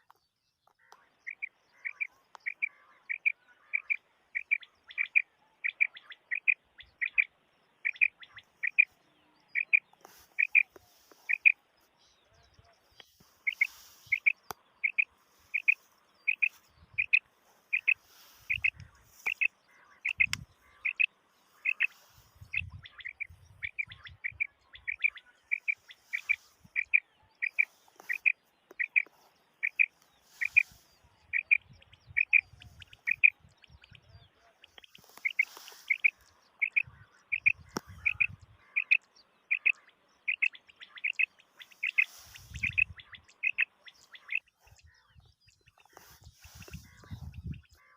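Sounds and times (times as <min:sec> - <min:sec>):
quail calling: 0:01.3 - 0:09.0, 0:09.6 - 0:11.6, 0:13.0 - 0:45.1, 0:45.9 - 0:47.9.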